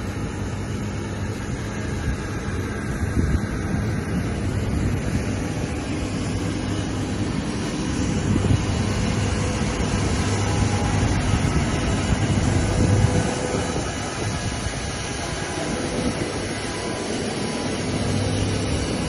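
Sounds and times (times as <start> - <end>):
airport ramp rumble and hiss: 0.0 - 19.0
faint machinery hum: 0.0 - 19.0.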